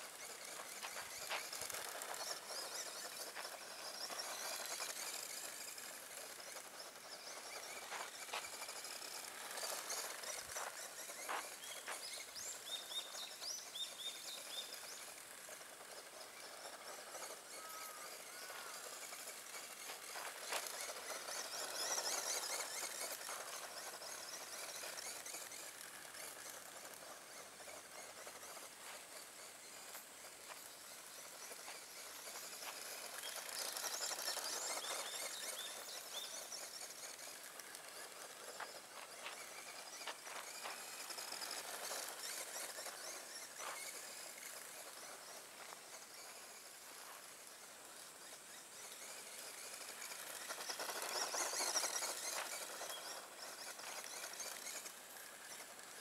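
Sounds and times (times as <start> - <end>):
rc car motor running: 0.0 - 56.0
rc car tyres on gravel: 0.0 - 56.0.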